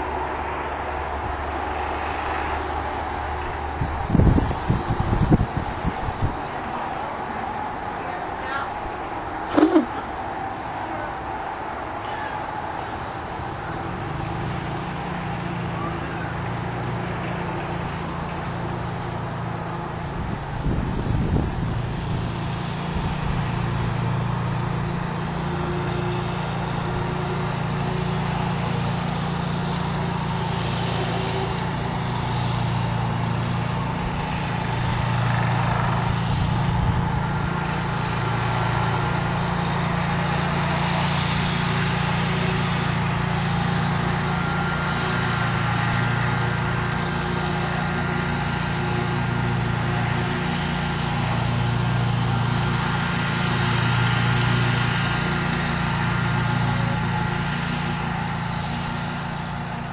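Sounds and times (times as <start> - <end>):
lawn mower engine droning: 0.0 - 59.9.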